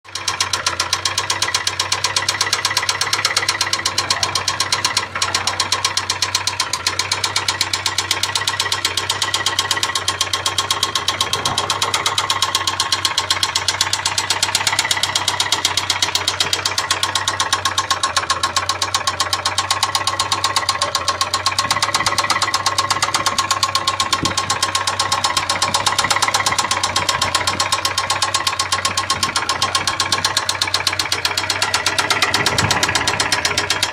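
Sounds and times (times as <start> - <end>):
car engine idling: 0.0 - 33.9
engine knocking: 0.0 - 33.9.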